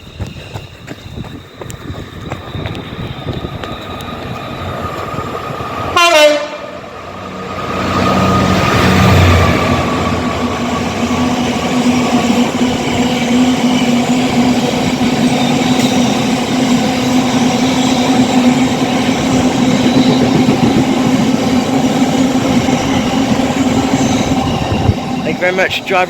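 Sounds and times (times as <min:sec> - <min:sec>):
freight train rumble: 0:00.0 - 0:26.0
locomotive low hum: 0:00.0 - 0:26.0.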